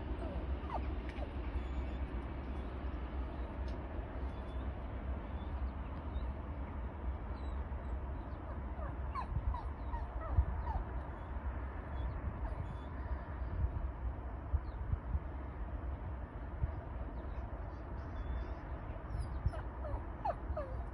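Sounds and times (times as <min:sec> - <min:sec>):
wind rumbling on microphone: 0:00.0 - 0:20.9.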